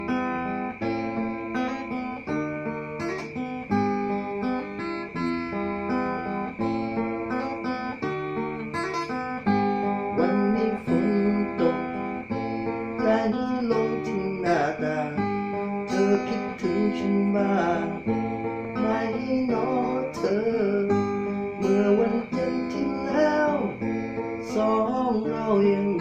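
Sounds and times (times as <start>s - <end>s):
acoustic guitar picking and strumming: 0.0s - 26.0s.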